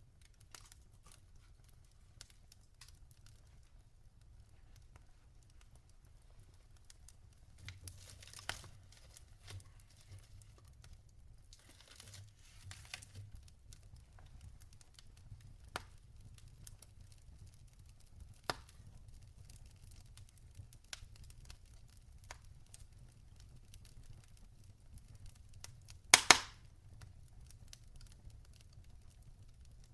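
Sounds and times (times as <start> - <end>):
fire pops and snaps: 0.0 - 29.9
wood fire crackling: 0.0 - 29.9.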